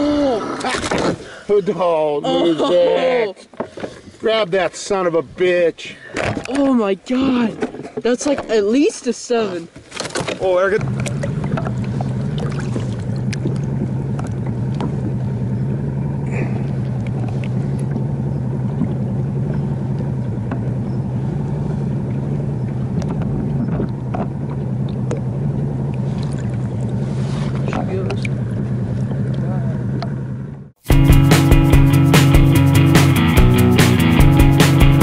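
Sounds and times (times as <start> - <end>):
outboard motor droning: 0.0 - 35.0.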